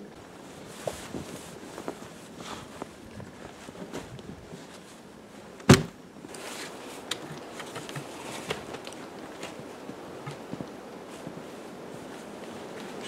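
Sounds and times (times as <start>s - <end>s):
footsteps crunching in snow: 0.3s - 5.5s, 6.2s - 13.0s.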